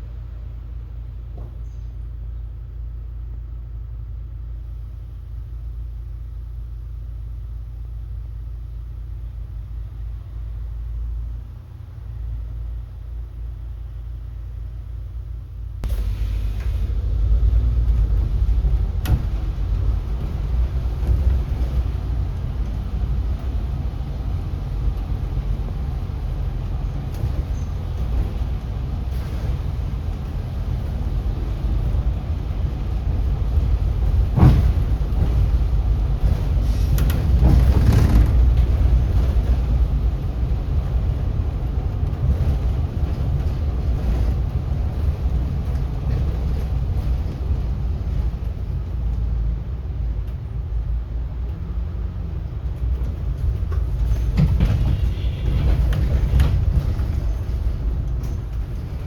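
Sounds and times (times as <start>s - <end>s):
bus engine rumble: 0.0s - 59.0s.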